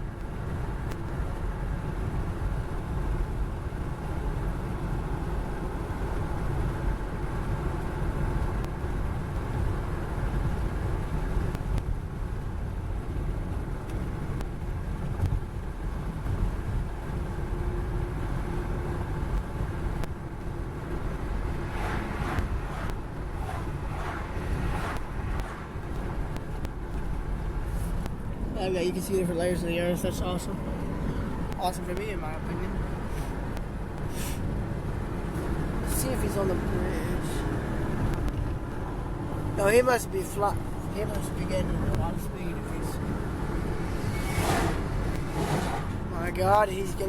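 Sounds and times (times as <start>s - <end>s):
road and wind rumble in car: 0.0s - 47.0s.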